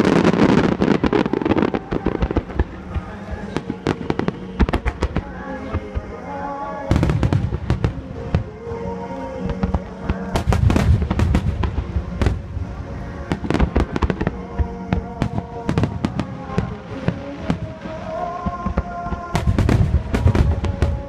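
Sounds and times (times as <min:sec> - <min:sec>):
fireworks bursting: 0:00.0 - 0:21.0
music playing: 0:00.0 - 0:21.0.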